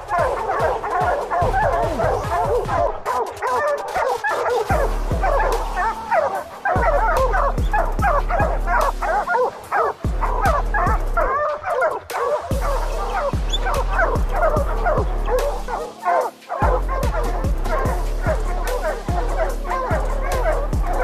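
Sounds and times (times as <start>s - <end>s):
dogs barking and baying: 0.0s - 21.0s
music with deep bass beat: 0.0s - 21.0s.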